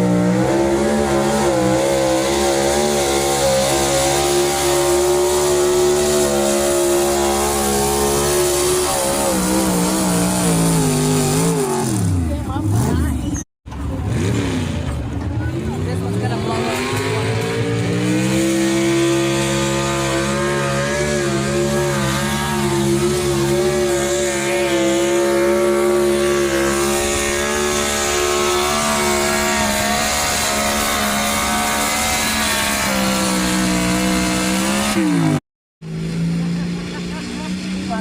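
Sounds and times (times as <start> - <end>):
pulling vehicle engine at full throttle: 0.0 - 38.0.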